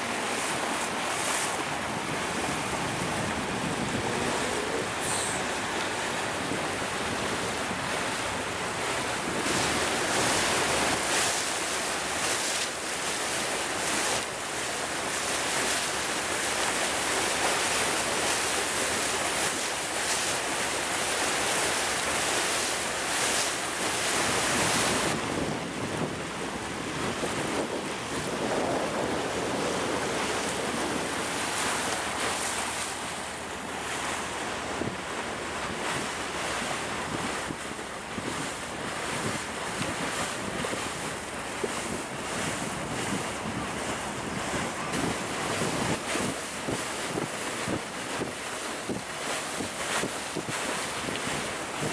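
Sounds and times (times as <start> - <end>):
wind buffeting microphone: 0.0 - 13.1, 23.1 - 51.9
water rushing past boat: 0.0 - 51.9.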